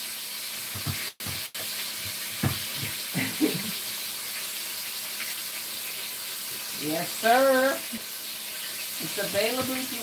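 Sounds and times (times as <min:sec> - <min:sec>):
chicken frying in oil: 0:00.0 - 0:10.0.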